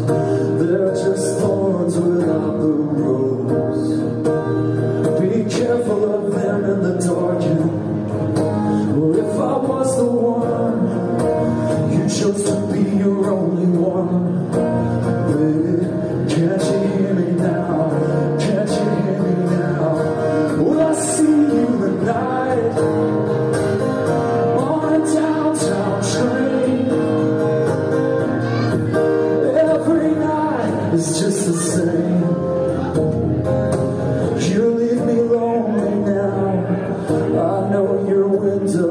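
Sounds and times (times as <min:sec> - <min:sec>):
man singing into microphone: 0:00.0 - 0:04.2, 0:04.9 - 0:33.1, 0:34.0 - 0:38.9
acoustic guitar: 0:00.0 - 0:38.9.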